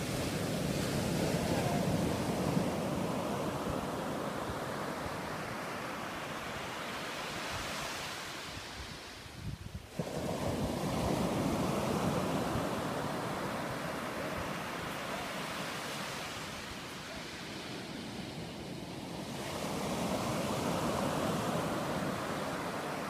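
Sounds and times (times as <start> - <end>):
ocean surf breaking: 0.0 - 9.3, 9.9 - 23.0.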